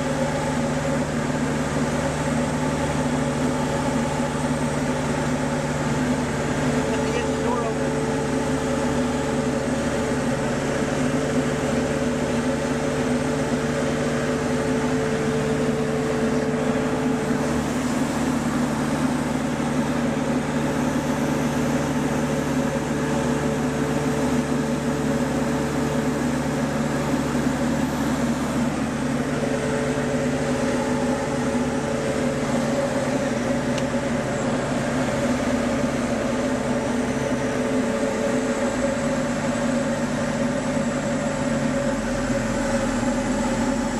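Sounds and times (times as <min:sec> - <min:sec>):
small airplane engine and propeller: 0:00.0 - 0:43.9.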